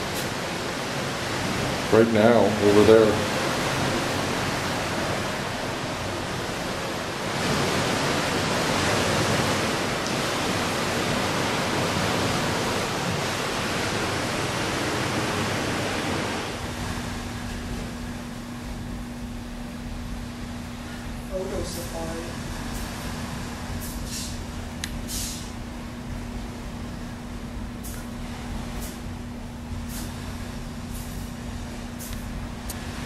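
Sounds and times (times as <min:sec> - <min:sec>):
ocean surf: 0:00.0 - 0:18.8, 0:20.2 - 0:33.0
faint steady hum: 0:00.0 - 0:33.0
wind: 0:00.0 - 0:33.0.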